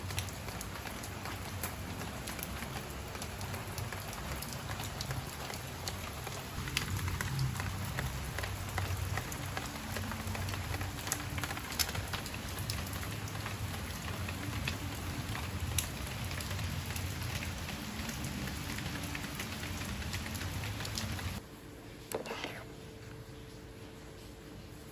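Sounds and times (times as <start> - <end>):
raindrops ticking: 0.0 - 21.4
rain falling: 0.0 - 22.0.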